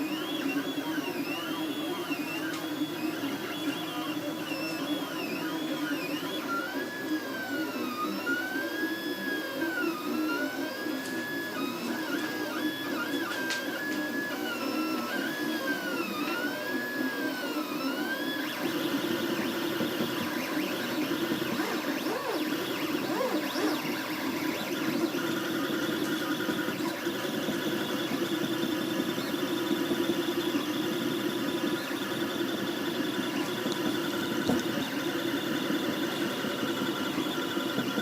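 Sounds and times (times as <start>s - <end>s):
stepper motors whining: 0.0s - 38.0s.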